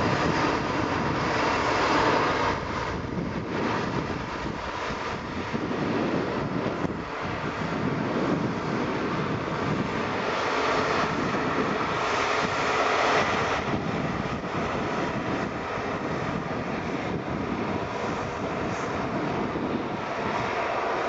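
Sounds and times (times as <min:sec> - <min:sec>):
jet engine rushing: 0:00.0 - 0:21.0.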